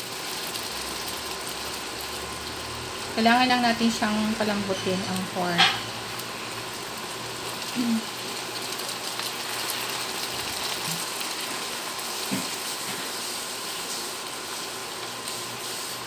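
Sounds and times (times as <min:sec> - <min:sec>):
pork sizzling in frying pan: 0:00.0 - 0:16.0.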